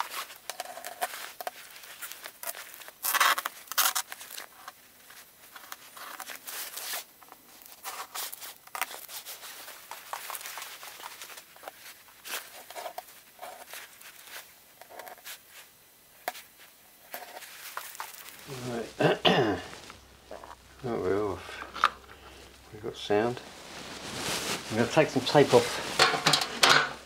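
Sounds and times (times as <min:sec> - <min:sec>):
materials rustling and scraping: 0:00.0 - 0:27.0.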